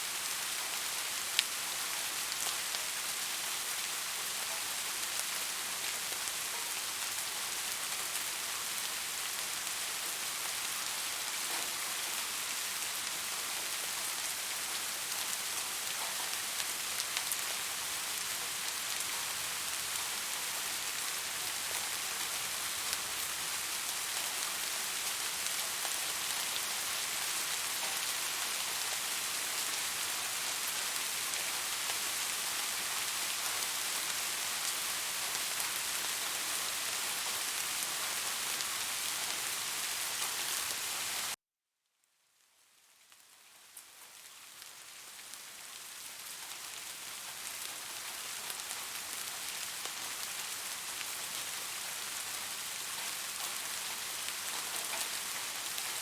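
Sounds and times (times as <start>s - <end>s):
steady rain pattering: 0.0s - 41.4s, 42.3s - 56.0s.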